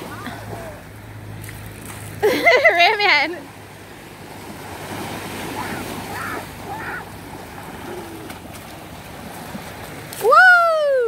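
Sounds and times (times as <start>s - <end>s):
surf washing on beach: 0.0s - 11.0s.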